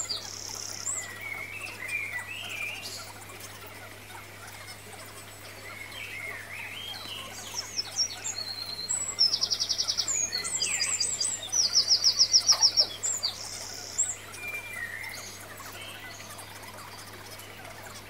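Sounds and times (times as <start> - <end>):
loud rapid bird trills: 0.0 - 18.0
small birds chirping: 0.0 - 18.0.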